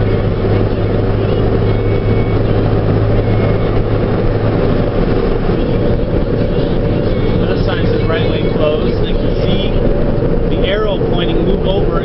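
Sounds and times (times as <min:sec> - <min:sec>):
truck diesel engine drone: 0:00.0 - 0:12.0.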